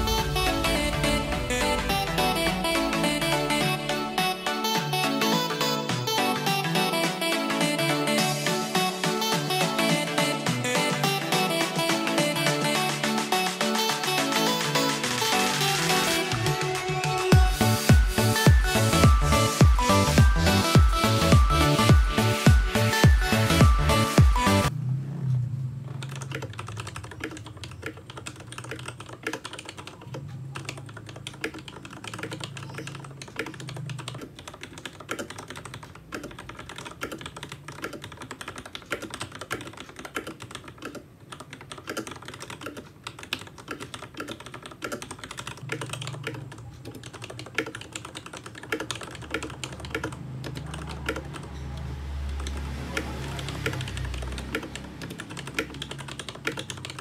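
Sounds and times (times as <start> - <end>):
mechanical keyboard typing: 2.1 - 24.7, 25.9 - 57.0.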